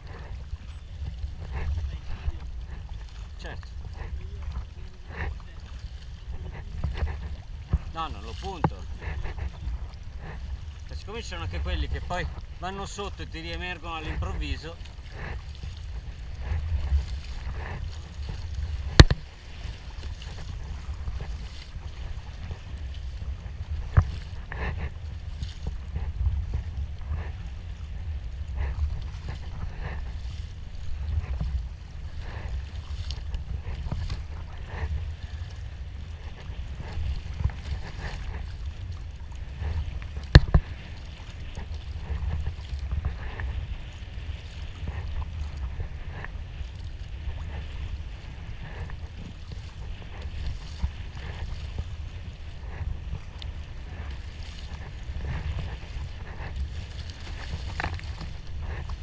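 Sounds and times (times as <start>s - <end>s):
paddle splashing water: 0.0s - 59.0s
wind on microphone: 0.0s - 59.0s.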